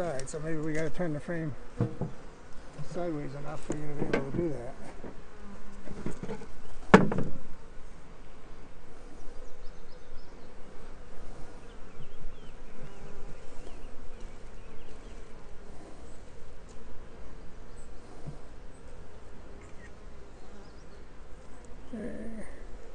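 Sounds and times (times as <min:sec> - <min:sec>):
honey bees buzzing: 0:00.0 - 0:22.9.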